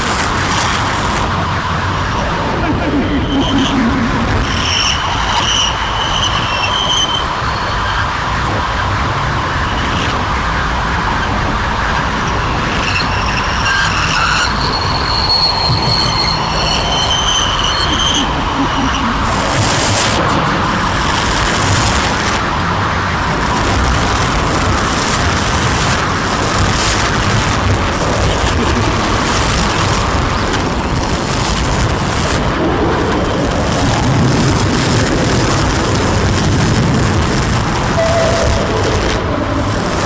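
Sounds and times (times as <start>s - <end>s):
dense rumbling noise: 0.0s - 40.0s.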